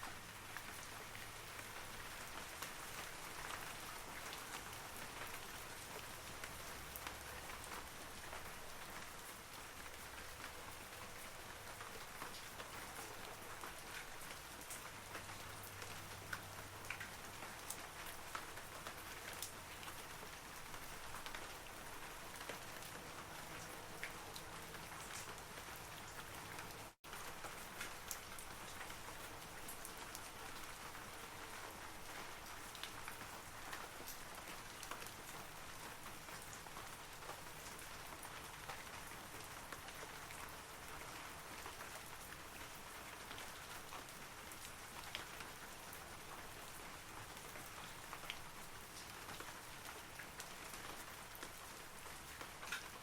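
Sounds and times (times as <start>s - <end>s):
rain falling on trees: 0.0s - 53.0s.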